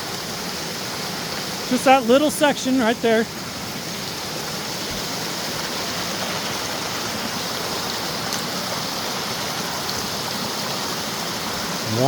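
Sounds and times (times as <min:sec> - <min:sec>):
creek rushing: 0:00.0 - 0:12.0.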